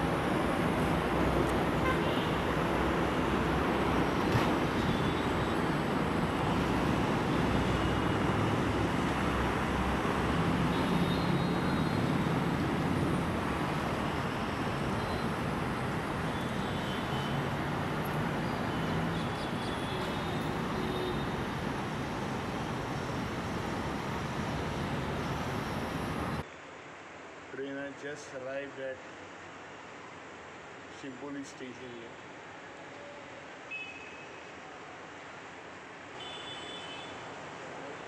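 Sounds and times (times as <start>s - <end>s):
city road traffic: 0.0s - 28.4s, 29.0s - 38.0s.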